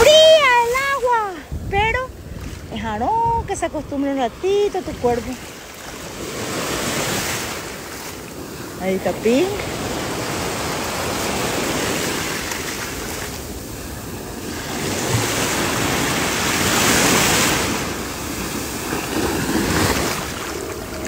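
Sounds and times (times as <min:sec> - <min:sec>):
surf washing on sand: 0:00.0 - 0:21.0.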